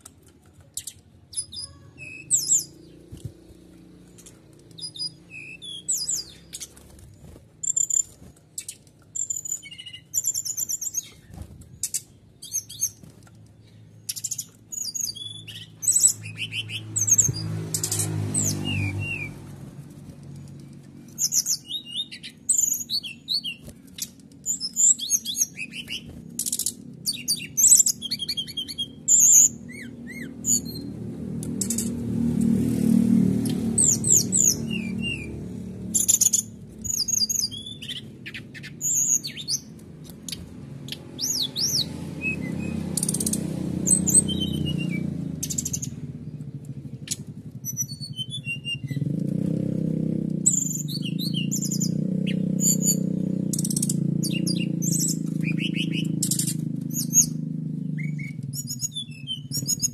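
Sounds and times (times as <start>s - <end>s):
songbird chirping and trilling: 0.0s - 59.9s.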